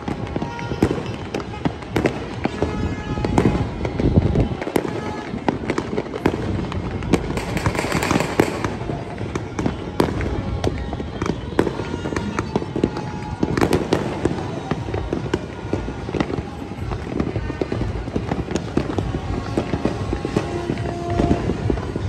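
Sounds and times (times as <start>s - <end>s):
fireworks and firecrackers banging: 0.0s - 22.0s.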